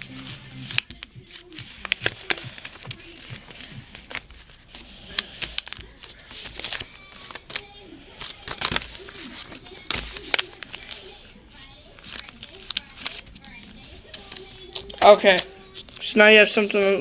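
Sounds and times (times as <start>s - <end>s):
paper crinkling: 0.0s - 17.0s
paper taps and snaps: 0.6s - 11.1s, 11.9s - 16.0s.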